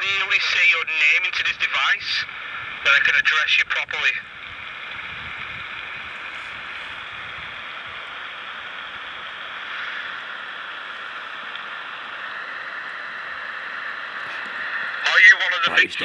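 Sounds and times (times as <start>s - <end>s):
faint low rumbles: 0.0s - 16.0s
steady hiss: 0.0s - 16.0s.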